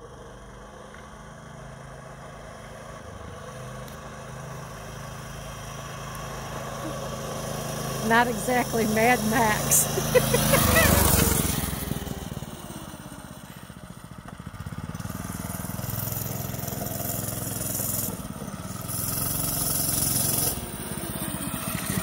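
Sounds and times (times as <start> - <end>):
mini bike engine passing: 0.0 - 22.0.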